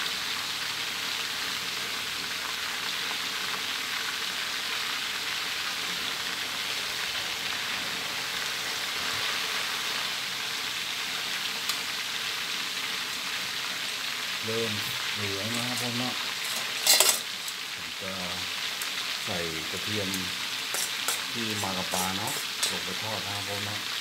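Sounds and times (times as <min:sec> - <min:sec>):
fish deep-frying in oil: 0:00.0 - 0:24.0.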